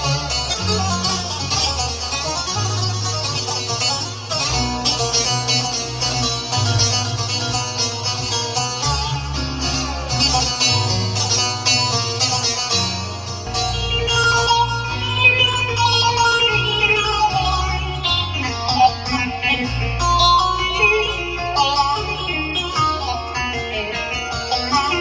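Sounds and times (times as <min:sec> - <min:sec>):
low bass line: 0:00.0 - 0:25.0
plucked-string keyboard lead: 0:00.0 - 0:25.0.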